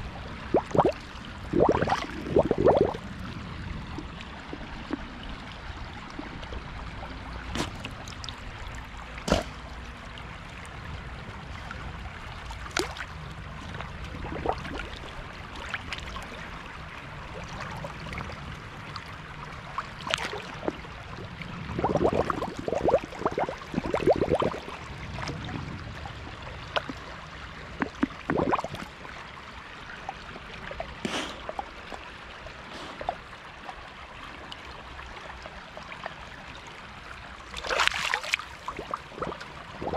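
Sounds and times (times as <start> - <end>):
stream running over stones: 0.0 - 39.9.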